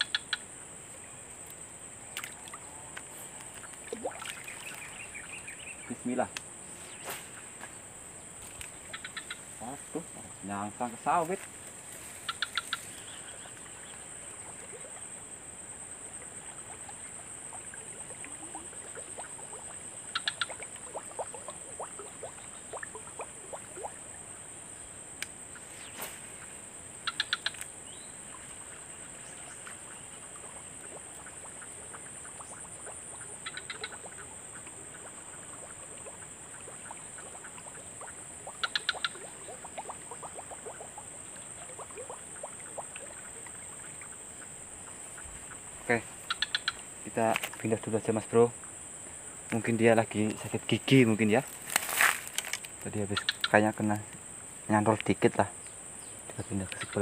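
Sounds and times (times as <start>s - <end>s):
frog croaking: 0.0s - 57.0s.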